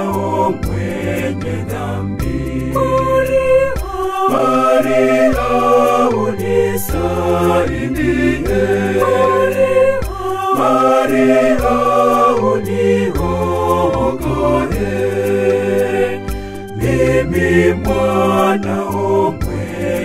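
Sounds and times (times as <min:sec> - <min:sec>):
backing track with bass and beat: 0:00.0 - 0:20.0
voices singing gospel: 0:00.0 - 0:20.0.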